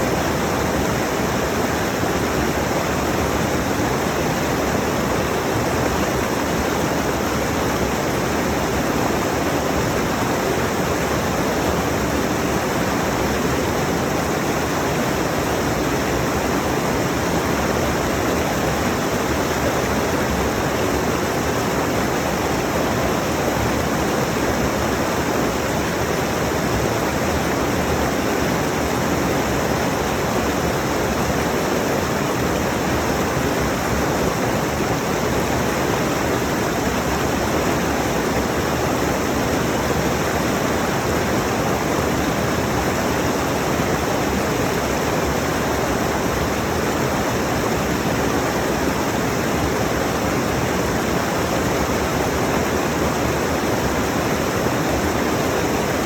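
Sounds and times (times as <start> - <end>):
water rushing over rocks: 0.1 - 56.0.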